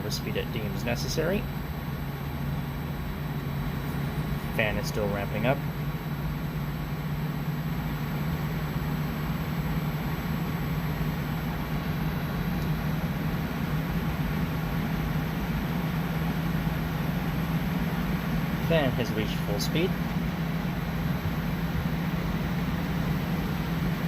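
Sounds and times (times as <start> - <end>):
air conditioner fan rushing air: 0.0 - 24.0
compressor low hum: 0.0 - 24.0.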